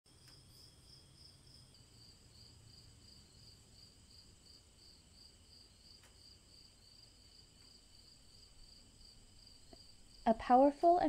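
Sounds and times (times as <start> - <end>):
crickets chirping: 0.1 - 10.4.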